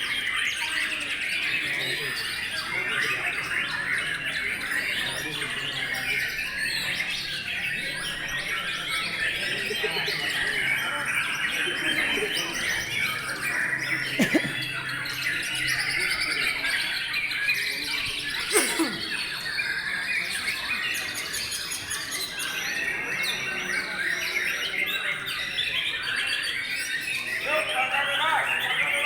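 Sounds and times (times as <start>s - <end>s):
caged birds singing in chorus: 0.0s - 29.0s.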